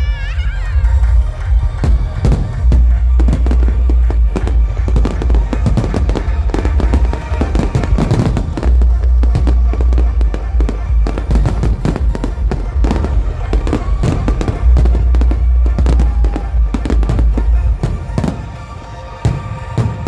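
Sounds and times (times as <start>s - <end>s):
music: 0.0s - 20.0s
fireworks banging and crackling: 0.7s - 20.0s.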